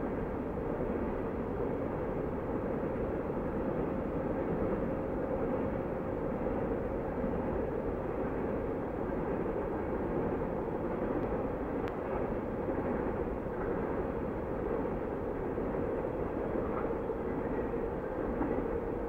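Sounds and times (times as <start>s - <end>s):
distant freight train rumbling: 0.0s - 19.0s.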